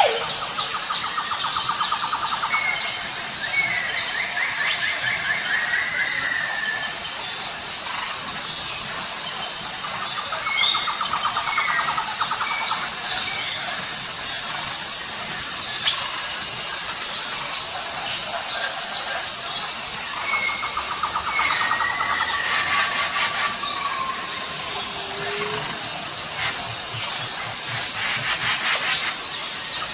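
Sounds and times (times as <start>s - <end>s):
high-pitched insect drone: 0.0s - 29.9s.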